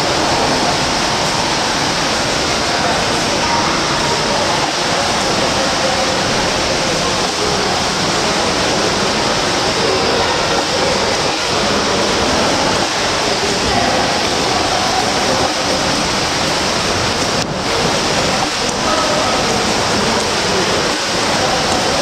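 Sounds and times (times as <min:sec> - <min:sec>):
swimmers splashing: 0:00.0 - 0:22.0.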